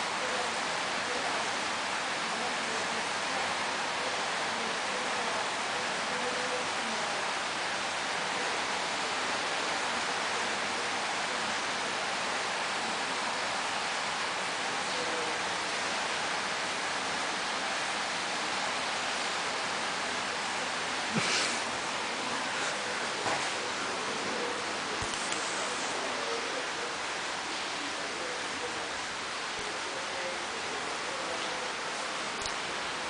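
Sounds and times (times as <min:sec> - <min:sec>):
steady hiss: 0:00.0 - 0:33.0.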